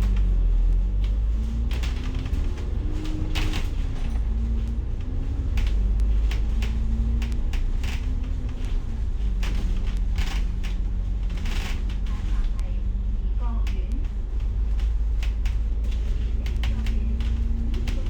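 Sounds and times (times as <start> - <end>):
bus body rattling: 0.0 - 18.0
bus engine and road rumble: 0.0 - 18.0
humming drive tone: 0.0 - 18.0.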